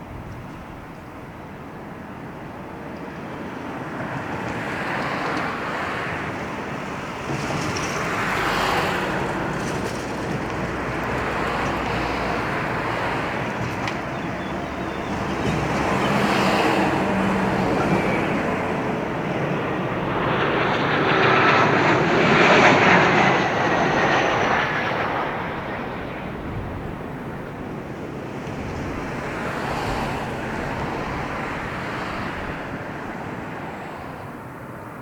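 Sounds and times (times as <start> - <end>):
jet airliner engine rush: 0.0 - 35.0.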